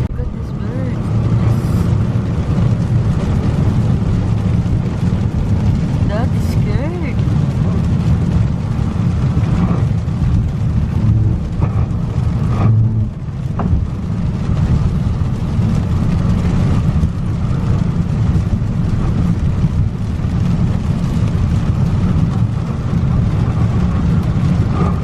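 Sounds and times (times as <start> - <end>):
car driving on wet road: 0.0 - 25.0.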